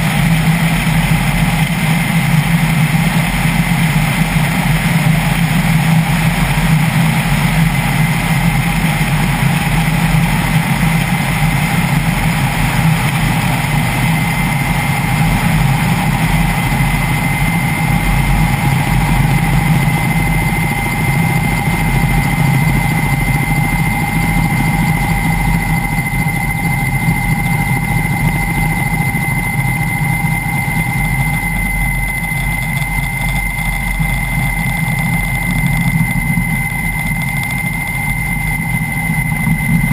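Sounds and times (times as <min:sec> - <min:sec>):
helicopter hum: 0:00.0 - 0:39.9
high turbine whine: 0:00.0 - 0:39.9.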